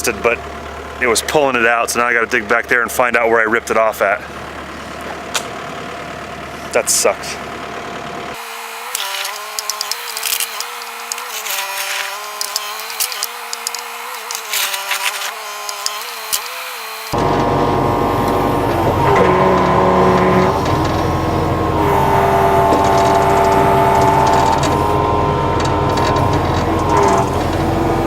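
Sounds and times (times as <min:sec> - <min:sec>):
digger engine and hydraulic whine: 0:00.0 - 0:28.0.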